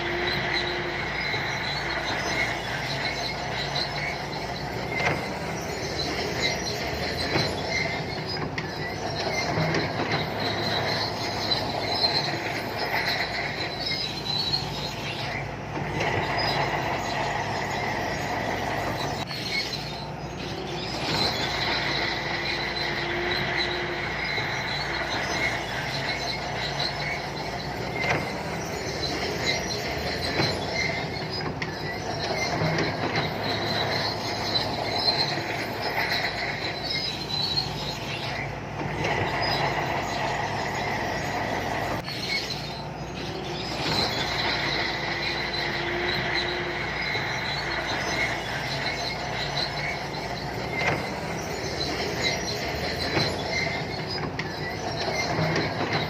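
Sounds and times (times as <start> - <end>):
diesel engine running: 0.0 - 56.0
steel tracks squealing: 0.0 - 56.0.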